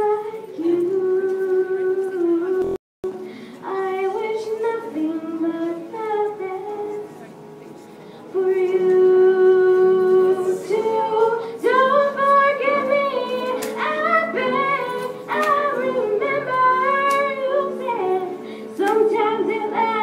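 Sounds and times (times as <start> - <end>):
girl singing into a microphone: 0.0 - 7.3, 8.1 - 20.0.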